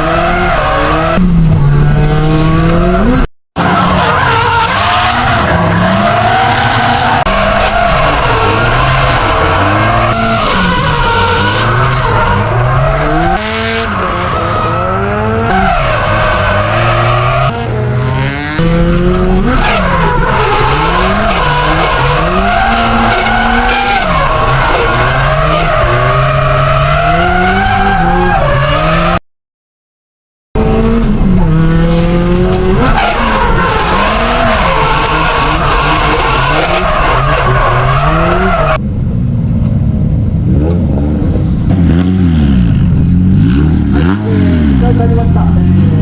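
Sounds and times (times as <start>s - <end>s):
car engine revving: 0.0s - 29.2s, 30.6s - 46.0s.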